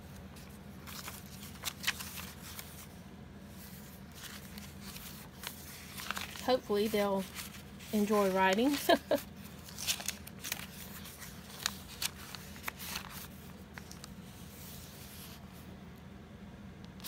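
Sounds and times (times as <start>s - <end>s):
paper pages rustling: 0.0s - 15.7s
low steady hum: 0.0s - 17.0s.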